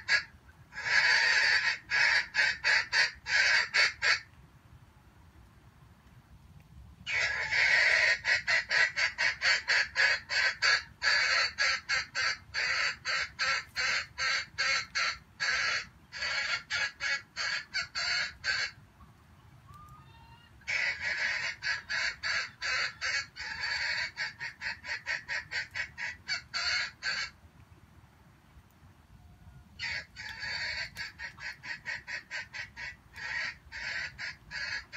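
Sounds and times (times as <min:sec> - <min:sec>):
junglefowl harsh chatter: 0:00.0 - 0:04.3, 0:07.1 - 0:18.8, 0:19.8 - 0:27.4, 0:29.8 - 0:34.9.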